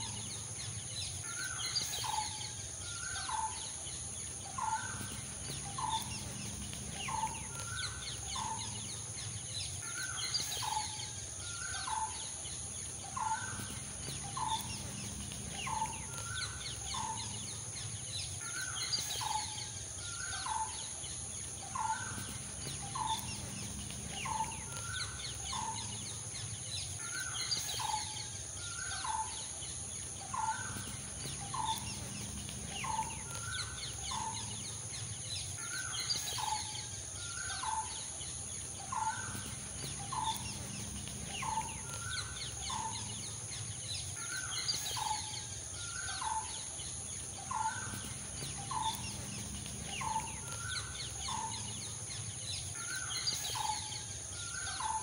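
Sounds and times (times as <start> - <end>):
faint high chirping: 0.0 - 55.0.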